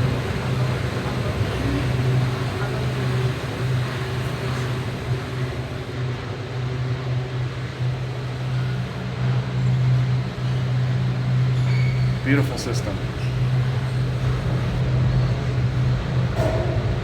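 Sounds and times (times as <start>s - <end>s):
cable car cabin hum: 0.0s - 17.0s.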